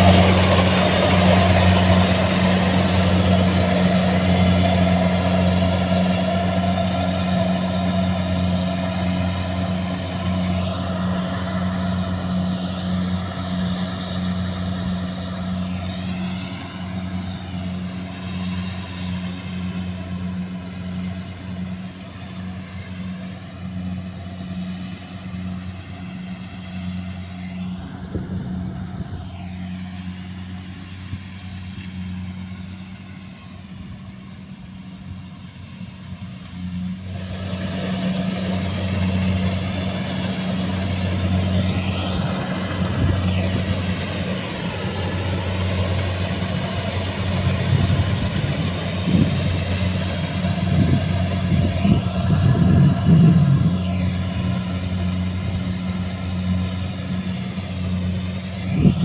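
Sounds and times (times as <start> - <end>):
harvester engine humming: 0.0 - 59.0.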